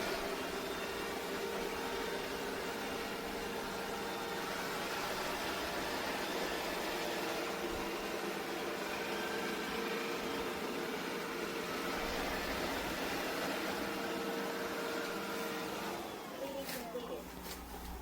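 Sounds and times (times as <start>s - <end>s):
robot vacuum whirring: 0.0s - 16.4s.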